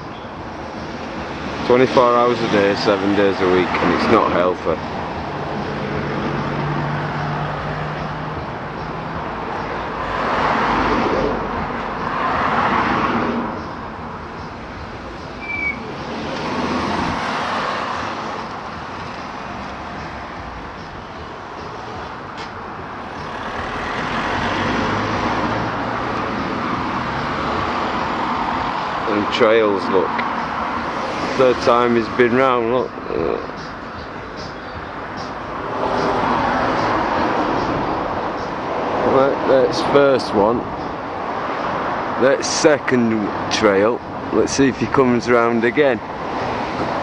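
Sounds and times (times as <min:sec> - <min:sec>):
vehicles passing: 0:00.0 - 0:47.0.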